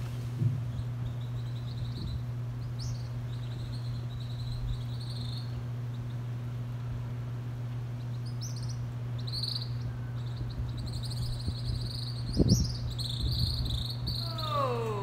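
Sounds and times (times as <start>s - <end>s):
steady low hum: 0.0s - 15.0s
small birds chirping: 0.6s - 15.0s.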